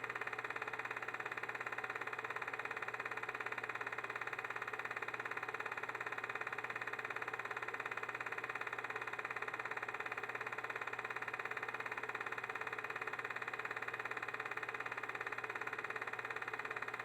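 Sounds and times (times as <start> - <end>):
film projector whirring and clattering: 0.0 - 17.0.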